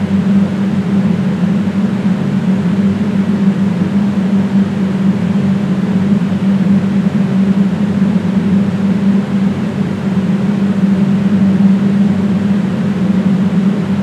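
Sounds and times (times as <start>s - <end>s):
mechanical hum with drone: 0.0s - 14.0s.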